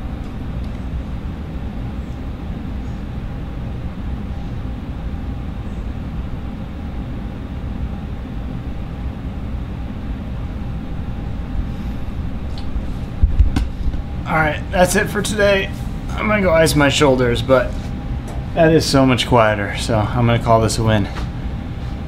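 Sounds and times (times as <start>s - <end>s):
air rushing through grille: 0.0s - 22.0s
faint steady hum: 0.0s - 22.0s.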